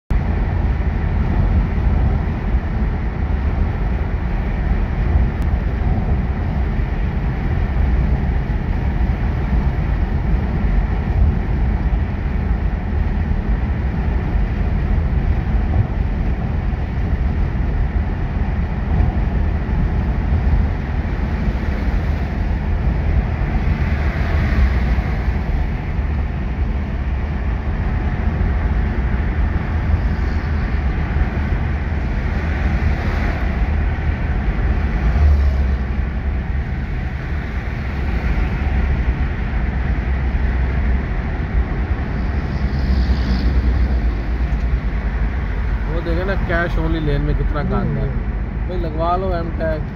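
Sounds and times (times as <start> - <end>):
engine and tyre rumble: 0.1 - 49.9
wind and road hiss: 0.1 - 49.9.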